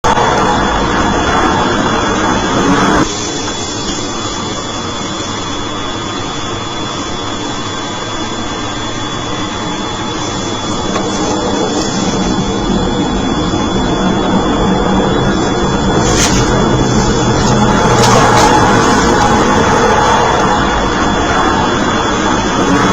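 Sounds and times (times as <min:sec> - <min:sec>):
steady engine noise: 0:00.0 - 0:22.9
thin high whine: 0:00.0 - 0:22.9.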